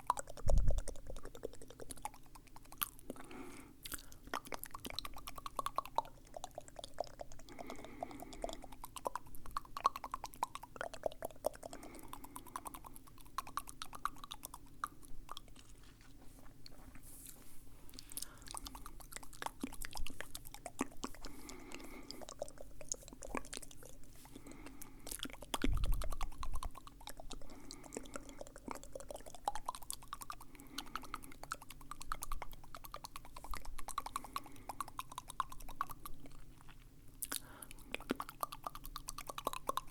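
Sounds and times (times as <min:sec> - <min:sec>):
wet mouth clicks and smacks: 0:00.0 - 0:17.0, 0:17.9 - 0:39.9.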